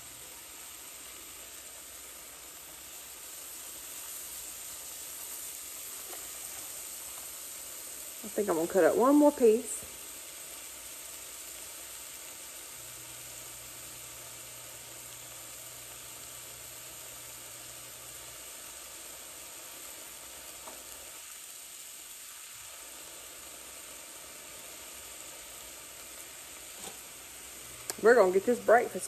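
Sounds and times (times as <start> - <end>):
bacon sizzling in a skillet: 0.0 - 29.0.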